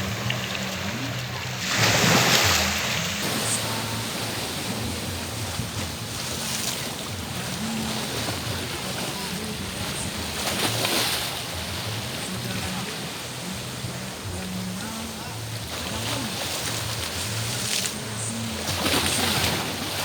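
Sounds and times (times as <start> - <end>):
surf washing onto beach: 0.0 - 20.0.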